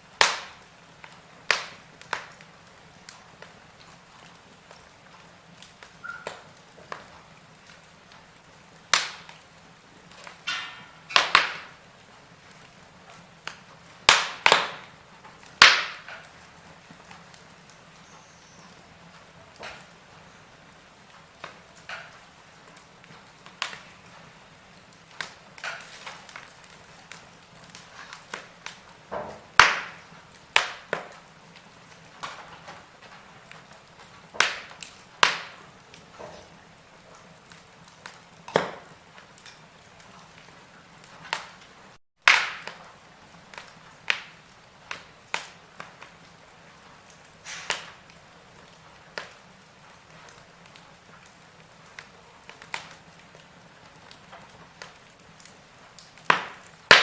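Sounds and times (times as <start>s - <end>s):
faint fire hiss: 0.0s - 57.0s
wood fire crackling: 0.0s - 57.0s.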